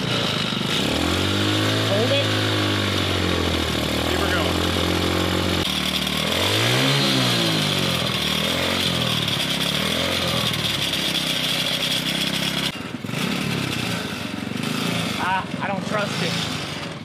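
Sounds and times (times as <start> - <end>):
go-kart engine revving and idling: 0.0 - 17.0.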